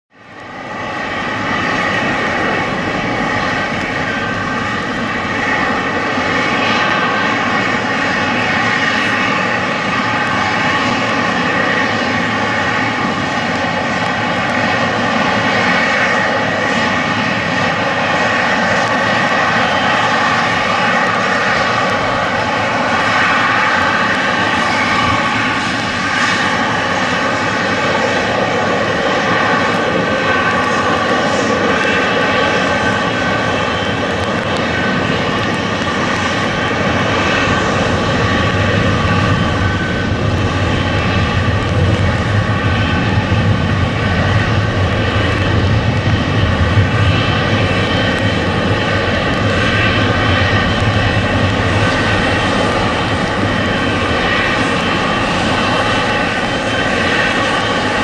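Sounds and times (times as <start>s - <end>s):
jet engines whining: 0.1s - 58.0s.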